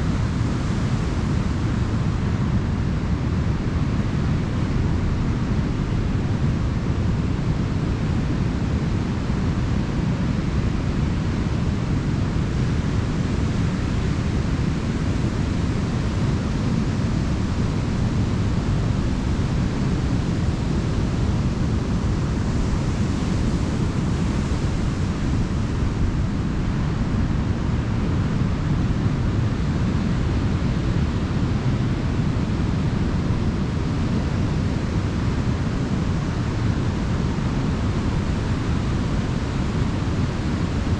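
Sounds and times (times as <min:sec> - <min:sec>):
ocean surf on beach: 0:00.0 - 0:40.9.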